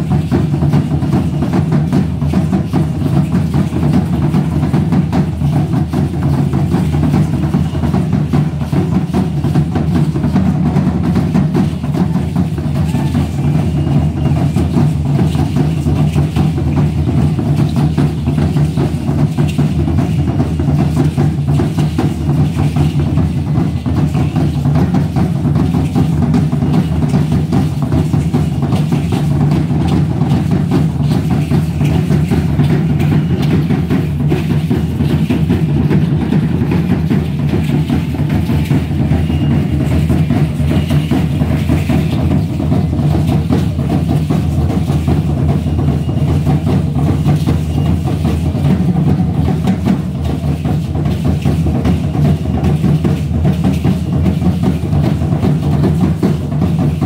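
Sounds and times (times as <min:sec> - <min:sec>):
large drums beaten fast: 0:00.0 - 0:57.0.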